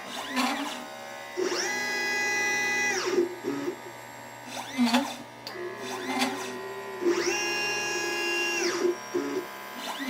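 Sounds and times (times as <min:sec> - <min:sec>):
stepper motors whining: 0:00.0 - 0:10.0.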